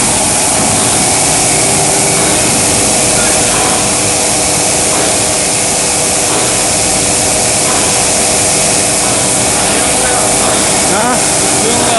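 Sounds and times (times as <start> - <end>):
welding line machine noise: 0.0 - 11.9.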